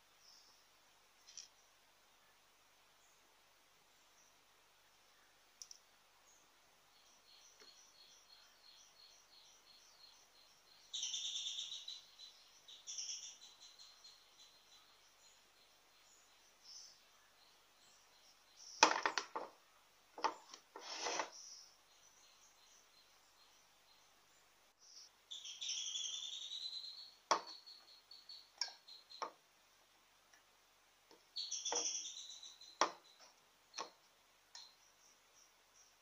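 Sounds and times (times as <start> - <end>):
bird chirping: 0.0 - 29.6, 30.2 - 36.0.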